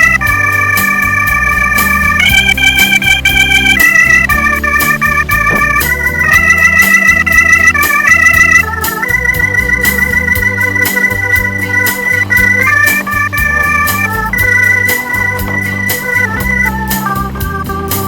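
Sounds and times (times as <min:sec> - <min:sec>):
electronic organ music: 0:00.0 - 0:18.0.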